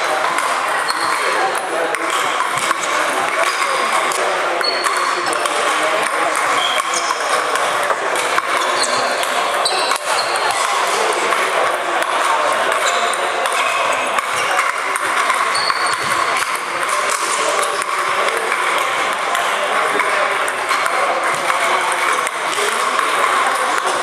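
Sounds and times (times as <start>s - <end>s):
ping-pong balls clicking: 0.0s - 24.0s.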